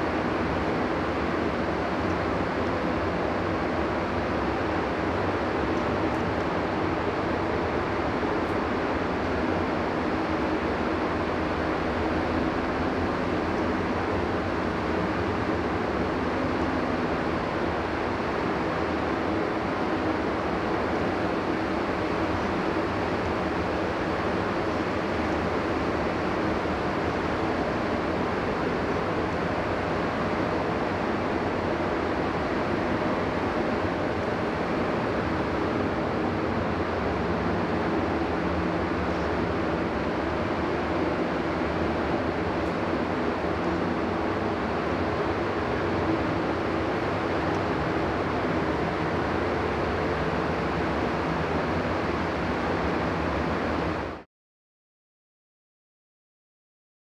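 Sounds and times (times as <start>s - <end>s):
ventilation fans rushing air: 0.0s - 54.2s.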